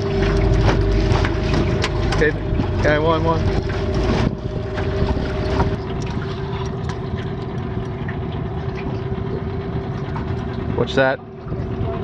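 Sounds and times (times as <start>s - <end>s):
outboard motor humming: 0.0s - 12.0s
water noise: 0.0s - 12.0s
wind: 0.0s - 12.0s.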